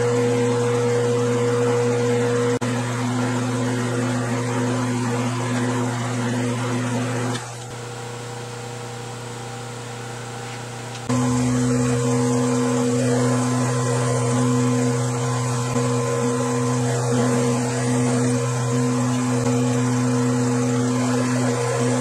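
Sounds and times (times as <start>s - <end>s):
metal lathe humming: 0.0s - 8.7s, 10.8s - 22.0s.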